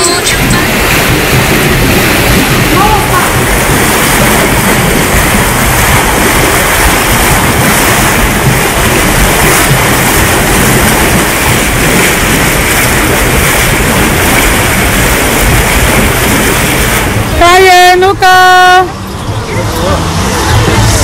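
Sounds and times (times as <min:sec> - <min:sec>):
hot tub jets churning water: 0:00.0 - 0:21.0.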